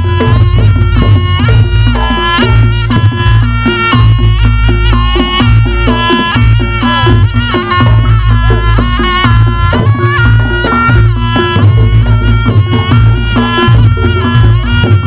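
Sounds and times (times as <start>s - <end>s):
drums: 0.0s - 15.0s
shawm playing nasal melody: 0.0s - 15.0s.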